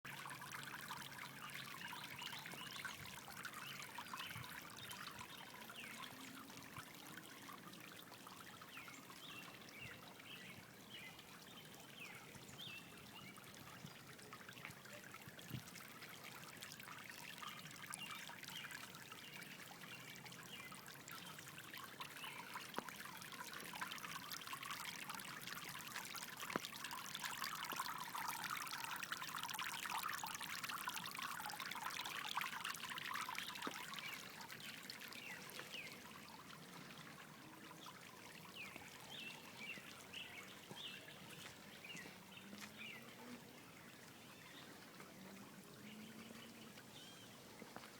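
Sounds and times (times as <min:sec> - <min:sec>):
fountain water trickling: 0:00.0 - 0:47.9.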